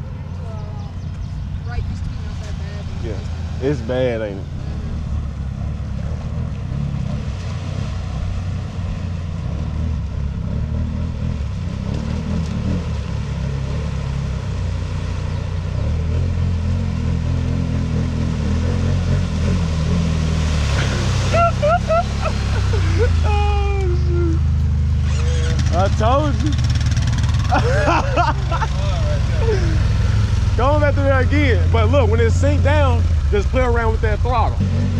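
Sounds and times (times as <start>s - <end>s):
engine running at low revs: 0.0s - 34.9s.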